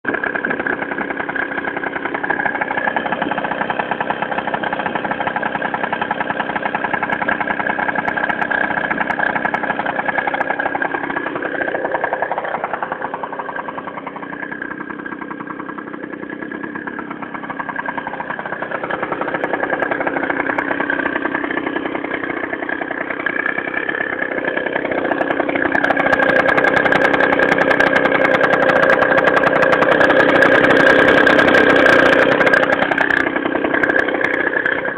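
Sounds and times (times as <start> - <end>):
scooter engine idling: 0.0 - 34.9.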